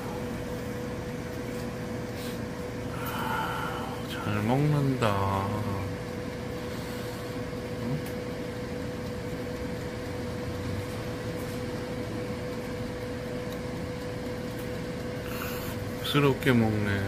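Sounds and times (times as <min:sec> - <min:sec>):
air fryer humming: 0:00.0 - 0:17.0
fan whirring: 0:00.0 - 0:17.0.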